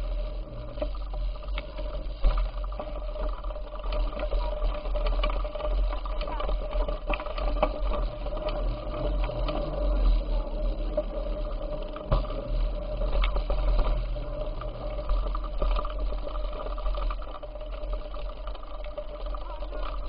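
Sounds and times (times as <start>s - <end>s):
bicycle clicks and rattles: 0.0s - 20.0s
bicycle whine: 0.0s - 20.0s.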